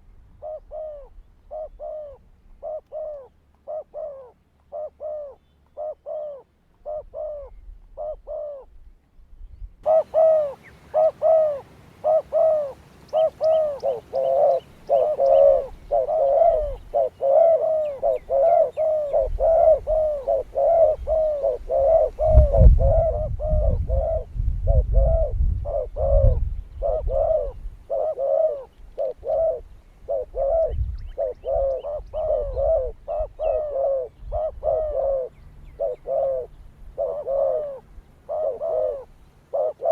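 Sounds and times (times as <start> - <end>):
doves cooing: 0.0 - 8.8, 9.8 - 39.9.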